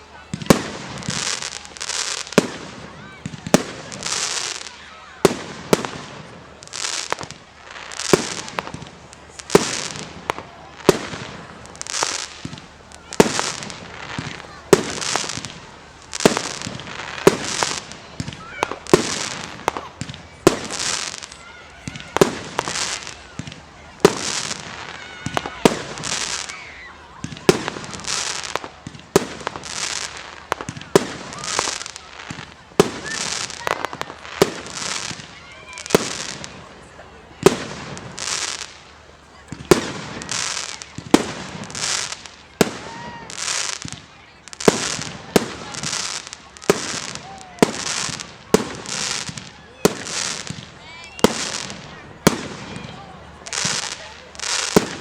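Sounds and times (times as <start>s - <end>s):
fireworks bangs: 0.0s - 55.0s
fireworks hissing crackle: 0.0s - 55.0s.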